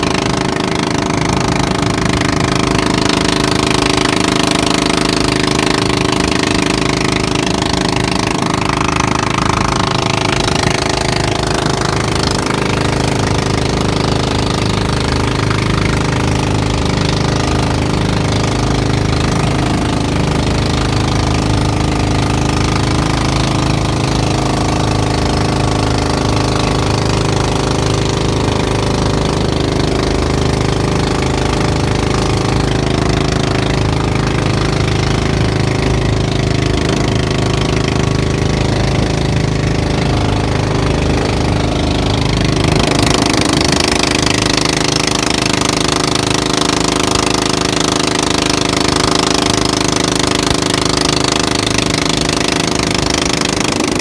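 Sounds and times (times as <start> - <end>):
boat engine drone: 0.0 - 54.0
water rushing along hull: 0.0 - 54.0.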